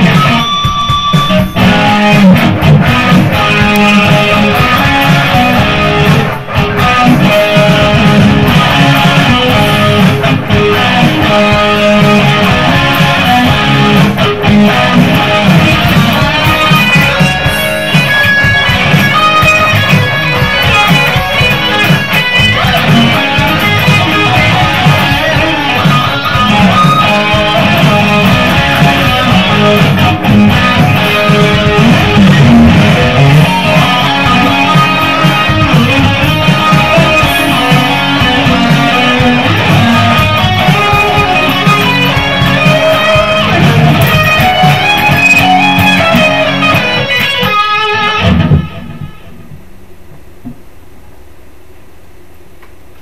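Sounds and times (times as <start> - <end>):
electric guitar shred lead: 0.0 - 50.0.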